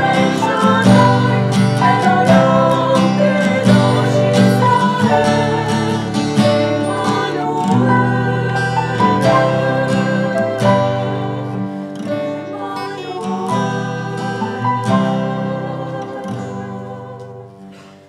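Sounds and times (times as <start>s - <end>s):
instrumental accompaniment: 0.0s - 18.0s
women singing a hymn: 0.0s - 18.0s.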